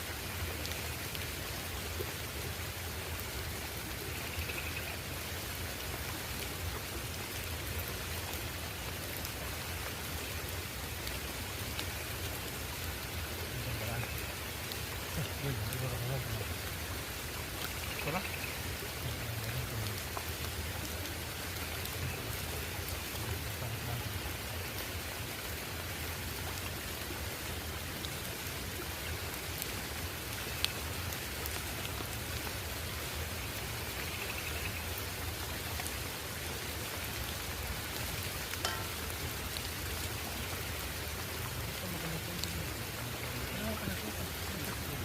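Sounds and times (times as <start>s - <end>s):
steady rain: 0.0s - 45.0s
sharp drips: 0.1s - 36.0s, 36.8s - 45.0s.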